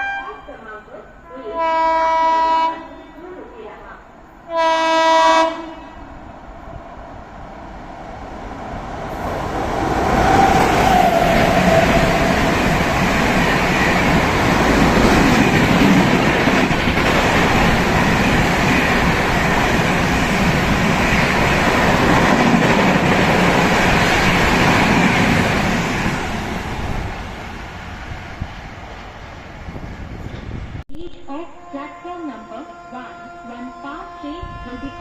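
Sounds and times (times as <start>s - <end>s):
train rushing through station: 0.0s - 35.0s.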